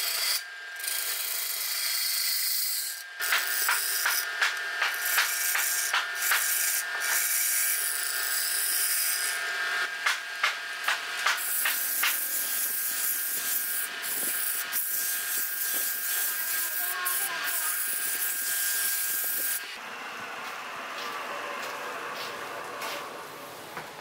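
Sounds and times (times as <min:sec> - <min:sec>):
gouge scraping spinning wood: 0:00.0 - 0:19.8
wood lathe motor whine: 0:00.0 - 0:23.4.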